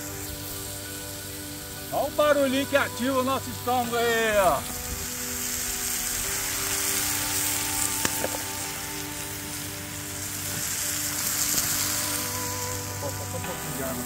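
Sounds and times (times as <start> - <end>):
fish stew sizzling in a pan: 0.0 - 14.0.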